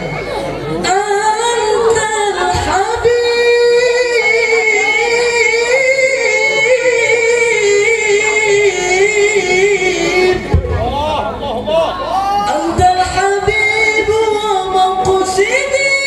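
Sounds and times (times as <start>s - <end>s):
high voice singing over loudspeakers: 0.0s - 16.0s.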